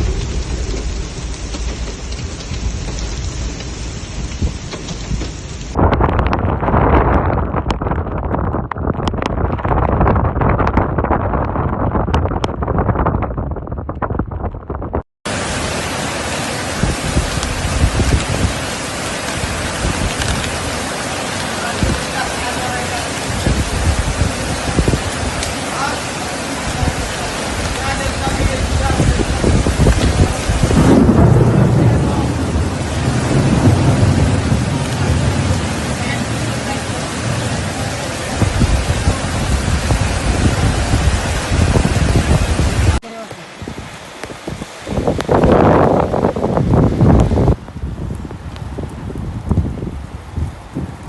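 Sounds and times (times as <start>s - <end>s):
heavy rain hissing: 0.0s - 5.8s, 15.3s - 51.0s
rushing heavy water: 0.0s - 5.9s, 15.3s - 51.0s
wind buffeting microphone: 0.0s - 25.6s, 26.6s - 51.0s
thunder rumbling: 0.0s - 43.0s.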